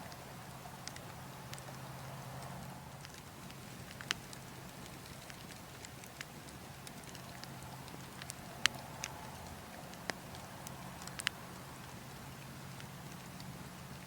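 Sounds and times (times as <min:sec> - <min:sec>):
burning logs crackling: 0:00.0 - 0:14.0
wind: 0:00.0 - 0:14.0.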